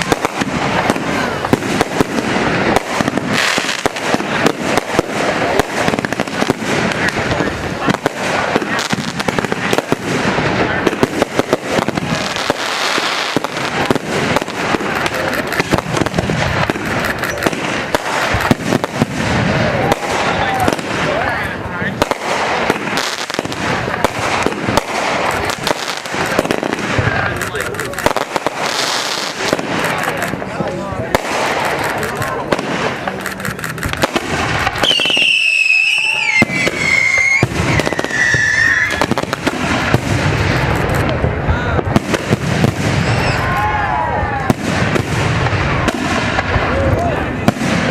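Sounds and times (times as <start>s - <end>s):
fireworks banging and popping: 0.0s - 47.9s
fireworks crackling hiss: 0.0s - 47.9s.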